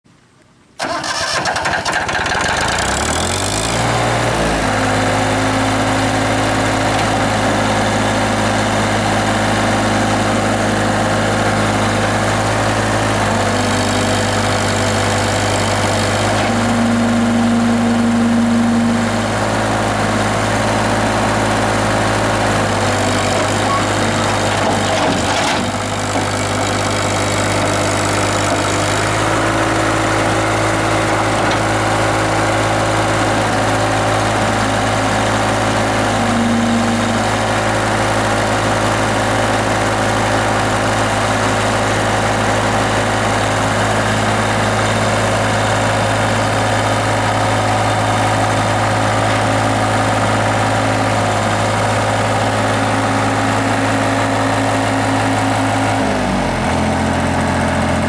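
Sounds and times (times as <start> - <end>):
tractor diesel engine running: 0.8 - 58.0.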